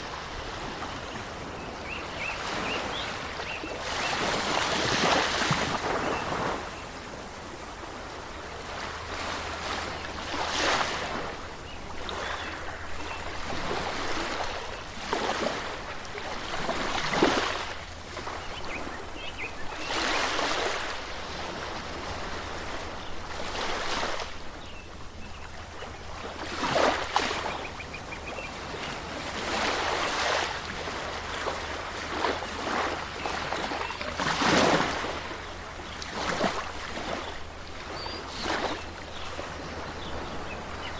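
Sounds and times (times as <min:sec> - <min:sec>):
waves washing onto shore: 0:00.0 - 0:40.9.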